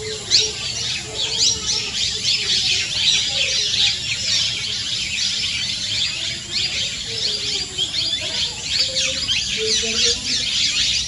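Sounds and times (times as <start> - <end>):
chorus of birds chirping: 0.0 - 11.0.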